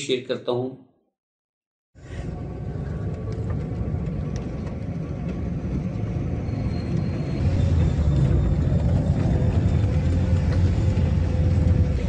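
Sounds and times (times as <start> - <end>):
car engine and tyres rumbling: 2.0 - 12.0.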